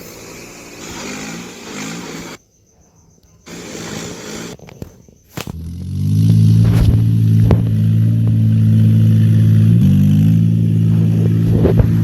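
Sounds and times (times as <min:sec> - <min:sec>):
tractor engine drone: 0:00.0 - 0:02.4, 0:03.5 - 0:04.6, 0:05.3 - 0:12.0.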